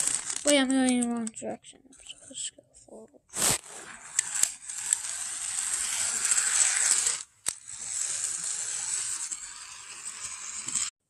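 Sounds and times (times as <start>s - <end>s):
toy train motor whirring: 0.0s - 1.3s, 3.3s - 10.9s.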